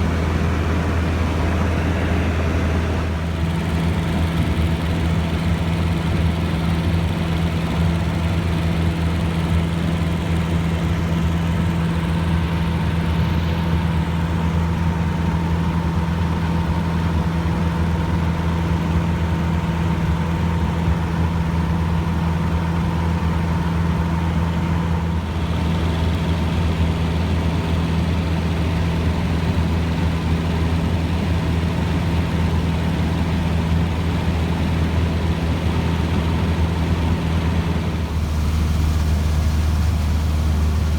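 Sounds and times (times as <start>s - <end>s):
airplane engine and propeller drone: 0.0s - 40.9s.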